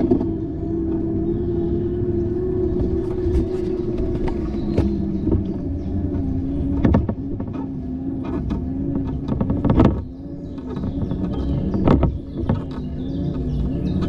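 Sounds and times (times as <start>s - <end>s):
bicycle road rumble: 0.0s - 14.0s
bike jolting over bumps: 2.6s - 14.0s.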